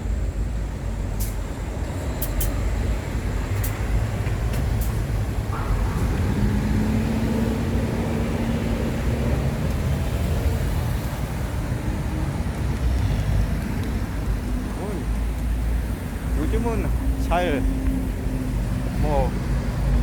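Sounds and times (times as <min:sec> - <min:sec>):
low rumble of passing vehicles: 0:00.0 - 0:20.0
vehicle engine hum: 0:00.0 - 0:20.0.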